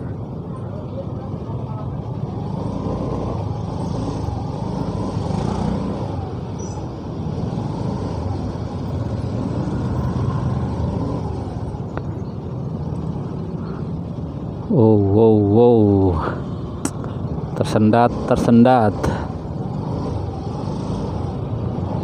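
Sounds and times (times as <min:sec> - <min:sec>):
motorcycle engine at low speed: 0:00.0 - 0:22.0
other vehicle engines: 0:00.0 - 0:22.0.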